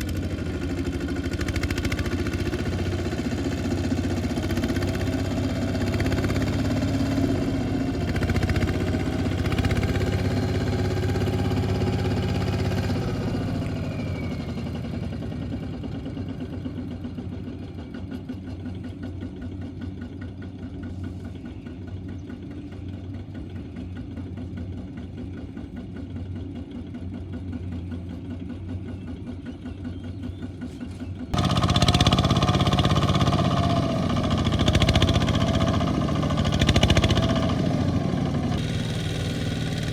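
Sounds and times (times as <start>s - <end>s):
loud close engine: 0.0s - 39.9s
tractor engine running: 0.0s - 39.9s.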